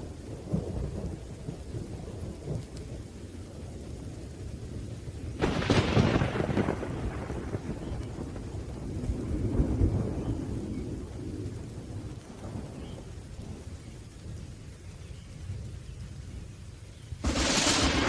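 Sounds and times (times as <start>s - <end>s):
thunder rumbling: 0.0s - 16.6s, 17.2s - 18.0s
rain hissing: 0.0s - 18.0s.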